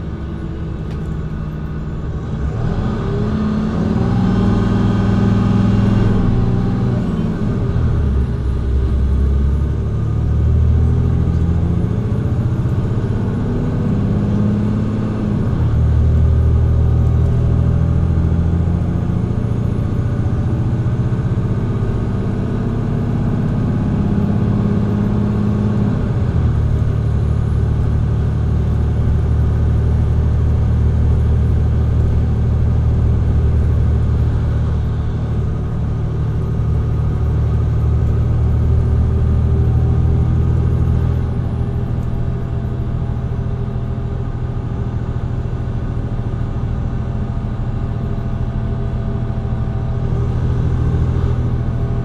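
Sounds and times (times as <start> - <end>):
bus diesel engine accelerating: 0.0 - 52.0.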